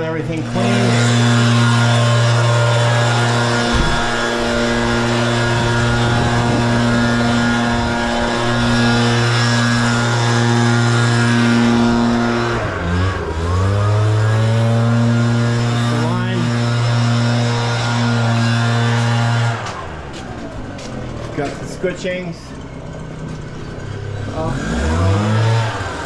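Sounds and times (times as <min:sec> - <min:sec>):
leaf blower engine running: 0:00.0 - 0:26.0.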